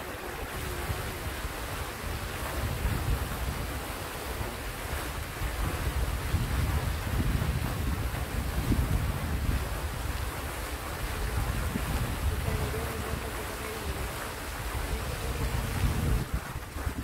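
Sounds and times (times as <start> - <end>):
fountain splashing into pond: 0.0 - 17.0
wind buffeting microphone: 0.0 - 17.0.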